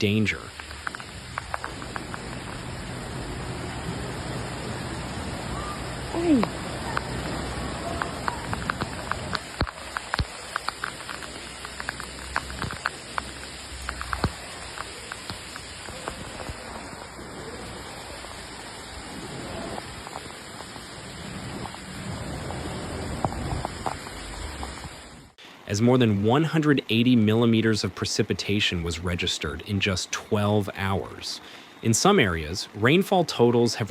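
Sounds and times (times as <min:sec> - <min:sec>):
heavy rain hissing: 0:00.0 - 0:33.9
raindrops striking a surface: 0:00.0 - 0:33.9.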